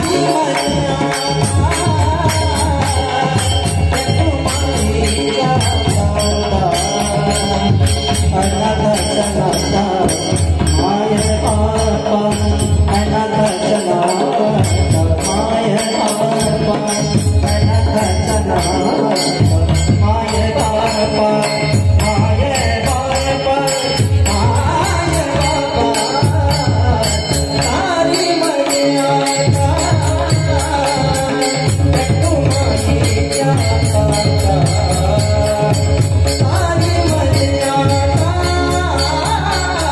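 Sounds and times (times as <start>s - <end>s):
man singing: 0.0s - 39.9s.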